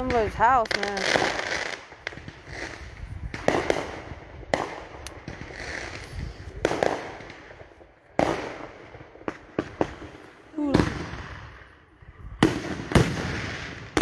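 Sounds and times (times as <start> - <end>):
firework bangs: 0.0 - 14.0
firework crackling: 0.0 - 14.0.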